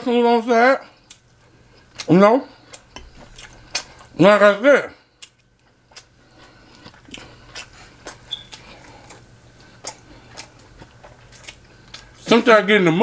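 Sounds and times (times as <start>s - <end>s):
person chewing: 0.9s - 4.2s, 5.0s - 12.3s.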